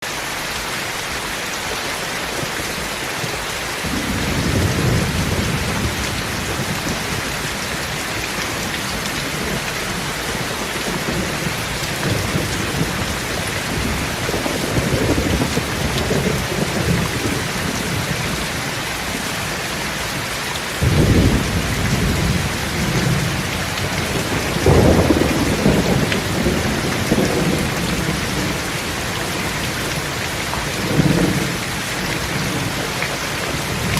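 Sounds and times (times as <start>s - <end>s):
heavy rain: 0.0s - 33.9s
low thunder rumbles: 3.8s - 19.2s, 20.8s - 33.9s.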